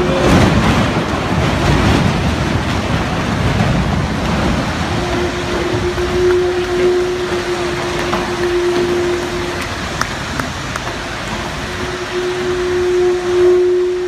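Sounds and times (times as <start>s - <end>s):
boring machine rumbling and grinding: 0.0s - 14.0s
steady hum: 0.0s - 14.0s.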